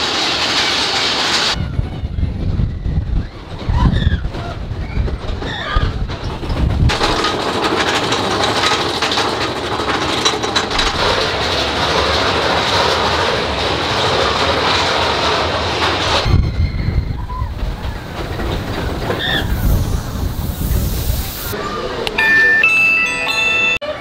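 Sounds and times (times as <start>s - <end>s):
roller coaster rattling on track: 0.0s - 22.1s.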